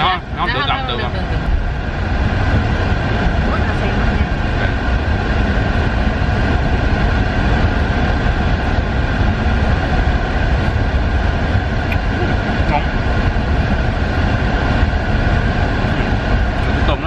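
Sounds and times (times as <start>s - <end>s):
air-conditioning fan blowing: 0.0s - 17.0s
car engine idling: 0.0s - 17.0s
faint steady whine: 0.0s - 17.0s.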